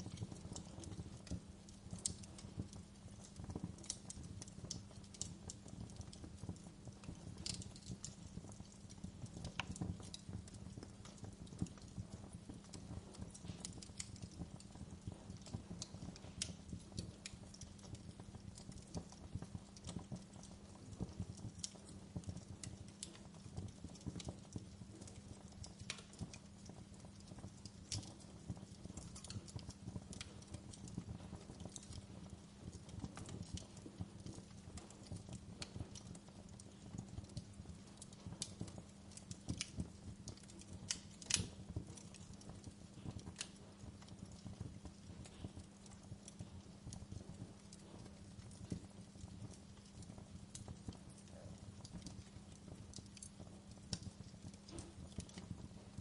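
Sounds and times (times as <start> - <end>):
low fire rumble: 0.0 - 56.0
sharp pops and snaps: 0.0 - 56.0
wood fire crackling: 0.0 - 56.0.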